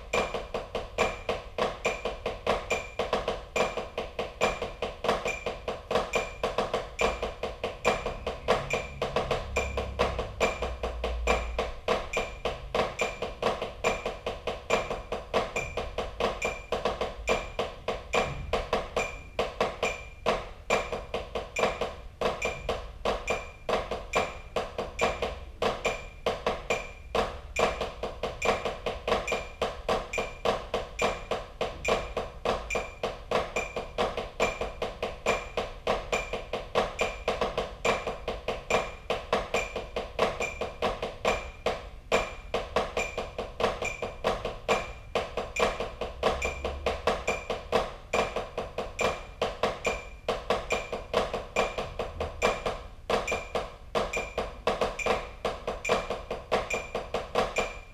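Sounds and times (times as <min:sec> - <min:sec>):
drumsticks striking a practice pad: 0:00.0 - 0:57.9.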